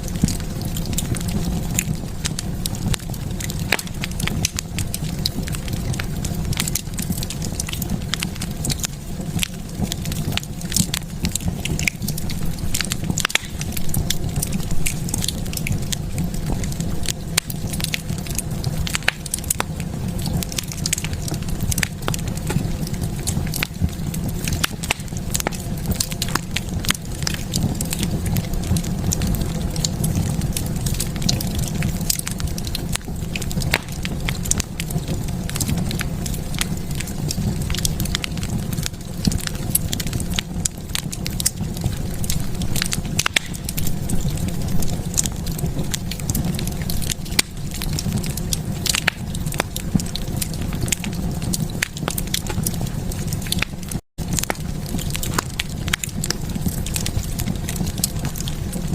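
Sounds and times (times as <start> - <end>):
fire crackling and popping: 0.0 - 58.9
fire flames rumbling: 0.0 - 58.9.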